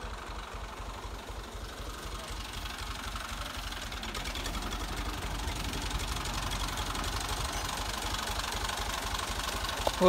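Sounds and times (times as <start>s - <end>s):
tractor diesel engine chugging: 0.0s - 10.0s.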